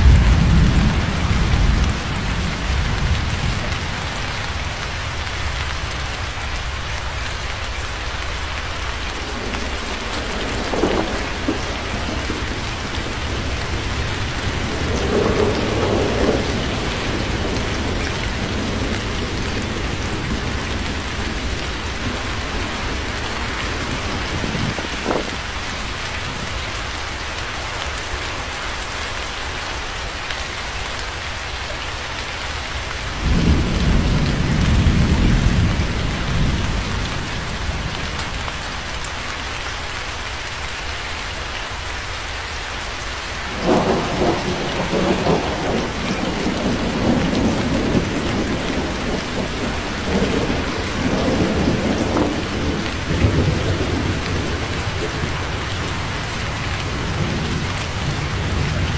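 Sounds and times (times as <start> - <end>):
thunder rumbling: 0.0 - 26.7, 33.1 - 39.3, 43.4 - 58.9
steady rain falling: 0.0 - 58.9.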